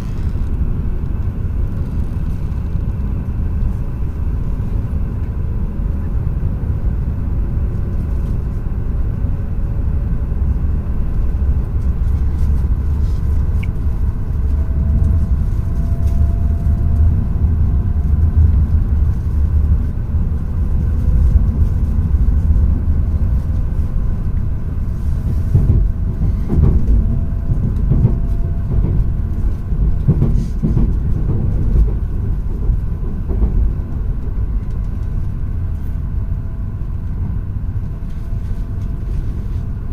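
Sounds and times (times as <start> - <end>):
train interior low rumble: 0.0 - 39.9.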